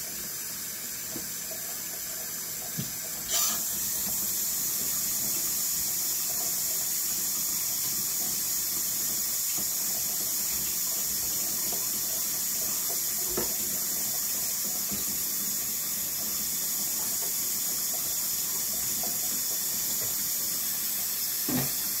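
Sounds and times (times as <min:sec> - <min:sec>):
faucet running into a sink: 0:00.0 - 0:22.0.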